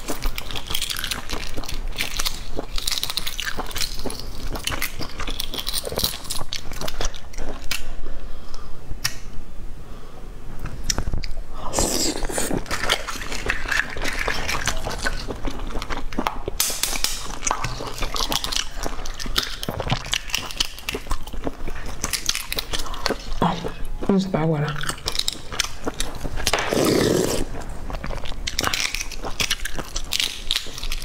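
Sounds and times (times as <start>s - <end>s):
eggshells cracking: 0.0s - 7.9s, 11.7s - 23.5s, 24.8s - 31.0s
chewing: 0.0s - 9.2s, 10.6s - 31.0s.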